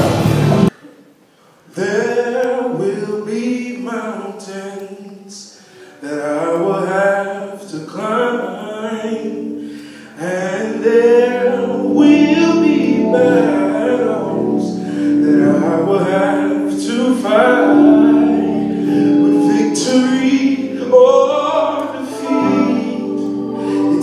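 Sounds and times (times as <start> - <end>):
gospel singing: 1.7 - 24.0.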